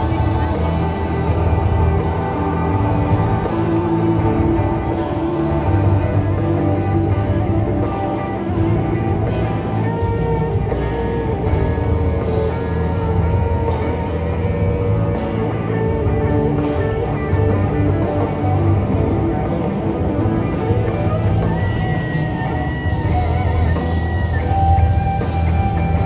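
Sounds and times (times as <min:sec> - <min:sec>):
electric guitar: 0:00.0 - 0:26.0
rock band playing live: 0:00.0 - 0:26.0.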